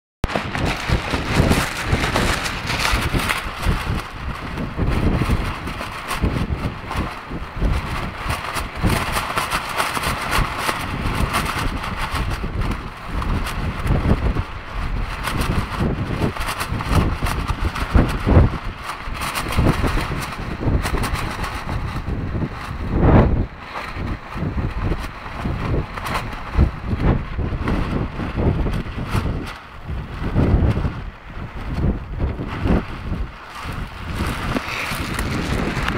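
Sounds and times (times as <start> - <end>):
plastic poncho flapping: 0.2 - 35.9
wind buffeting microphone: 0.2 - 35.9.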